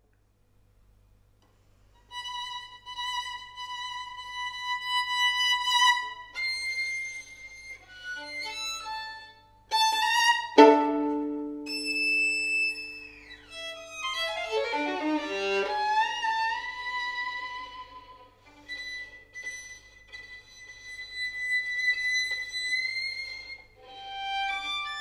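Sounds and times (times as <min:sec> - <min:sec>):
solo violin bowed: 0:02.0 - 0:25.0.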